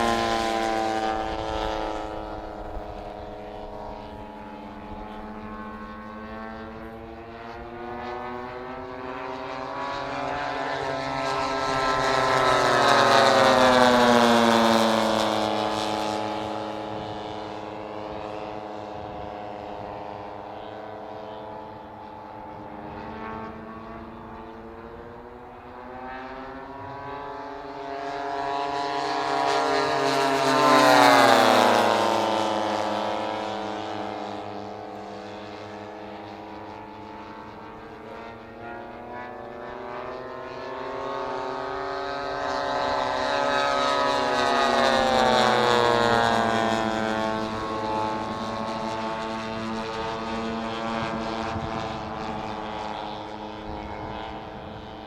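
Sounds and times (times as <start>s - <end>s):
model plane propeller engines passing: 0.0s - 55.0s.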